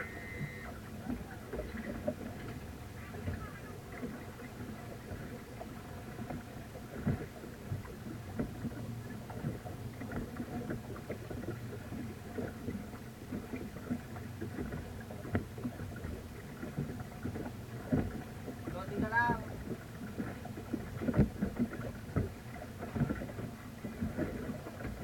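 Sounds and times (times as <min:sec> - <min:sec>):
boat motor running: 0:00.0 - 0:25.0
water splashing against hull: 0:00.0 - 0:25.0.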